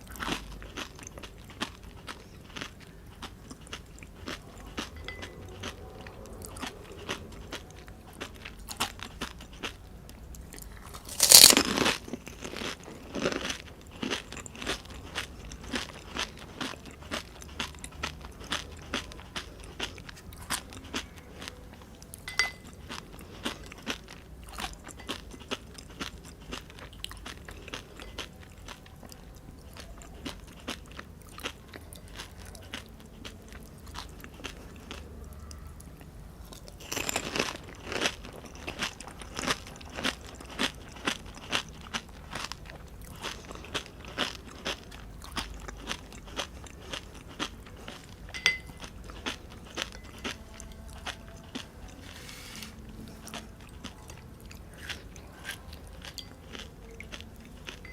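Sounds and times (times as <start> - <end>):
crunching and chewing crisp food: 0.0 - 57.9.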